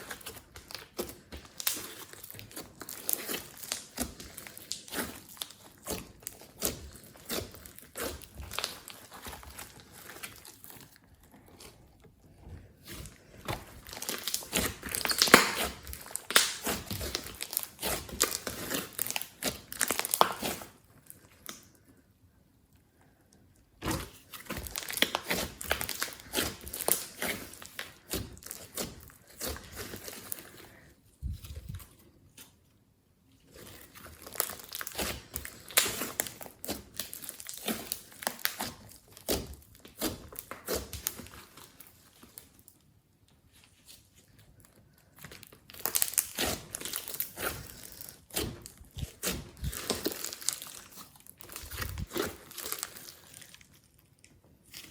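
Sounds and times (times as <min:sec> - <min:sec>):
slime squished by hand: 0:00.0 - 0:21.8, 0:23.7 - 0:32.6, 0:33.4 - 0:42.7, 0:43.7 - 0:54.9.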